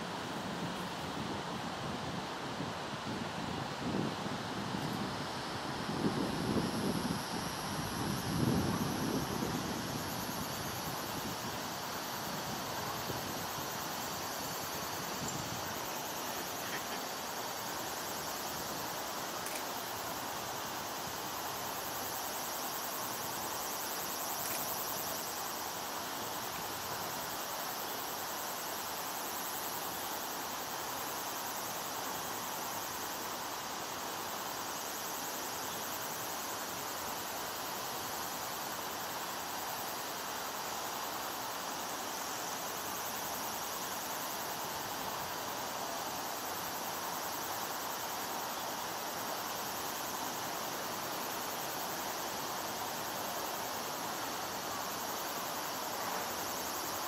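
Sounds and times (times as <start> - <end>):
outdoor background hiss: 0.0 - 57.0.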